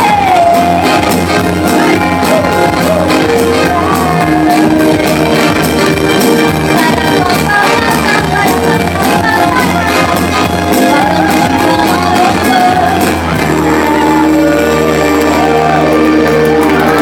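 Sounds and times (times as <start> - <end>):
woman singing into microphone: 0.0 - 16.4
pop backing music with beat: 0.0 - 17.0.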